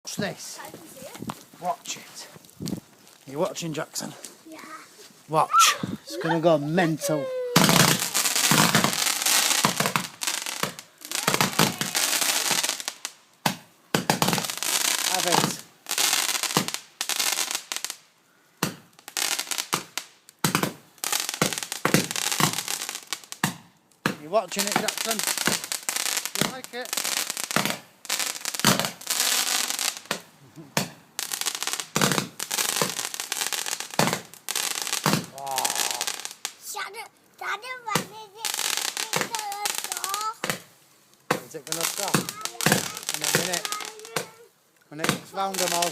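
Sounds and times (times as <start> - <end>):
firework crackles and pops: 0.1 - 45.9.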